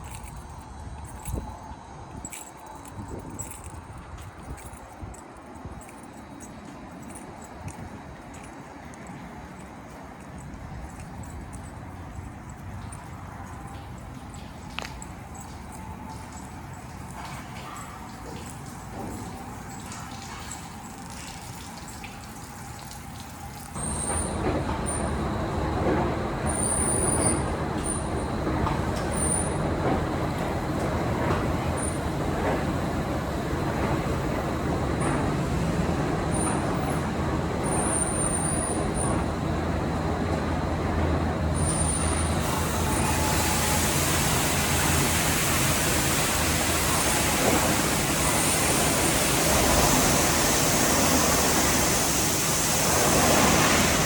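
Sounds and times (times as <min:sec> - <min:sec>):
car wash water spray: 0:05.8 - 0:54.0.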